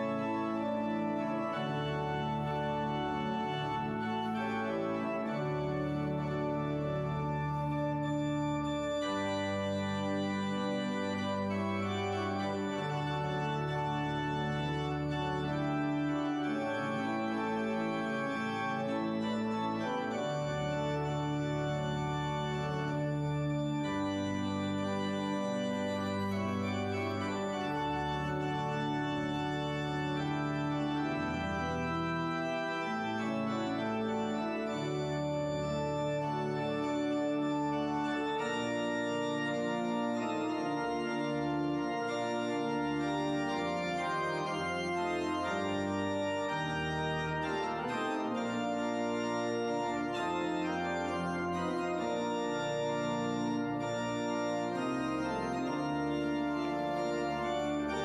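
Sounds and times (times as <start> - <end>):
church organ chords: 0.0 - 58.0
deep organ pedal bass notes: 0.0 - 58.0.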